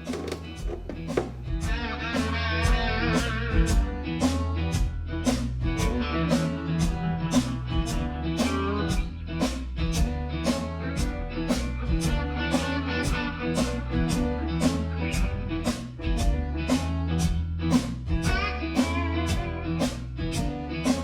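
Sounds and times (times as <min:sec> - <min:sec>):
blues guitar music: 0:00.0 - 0:21.0.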